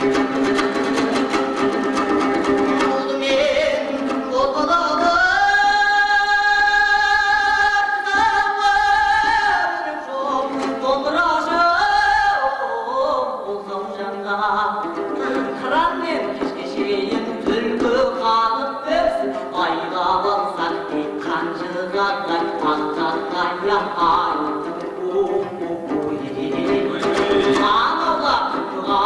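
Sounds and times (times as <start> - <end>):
two-stringed lute strumming: 0.0 - 29.0
man singing: 2.5 - 29.0.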